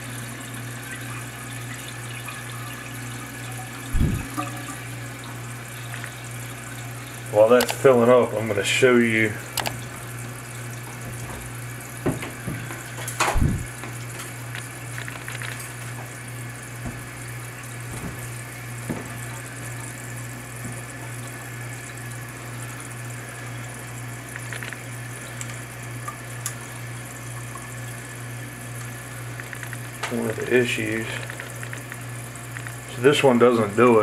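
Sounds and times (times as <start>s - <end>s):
low steady hum: 0.0s - 34.0s
water hissing through fill valve: 0.0s - 34.0s.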